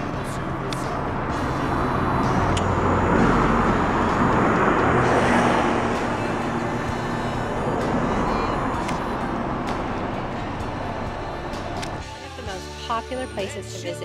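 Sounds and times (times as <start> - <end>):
road vehicle passing by: 0.0 - 12.3.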